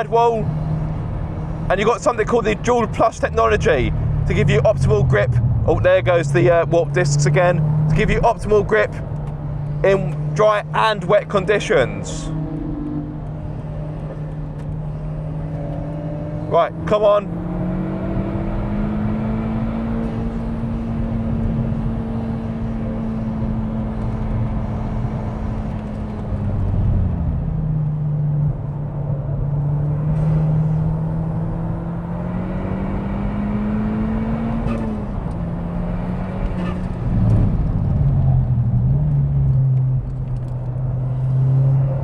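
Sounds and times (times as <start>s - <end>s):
car engine under load: 0.0s - 42.0s
tyre and road noise: 0.0s - 42.0s.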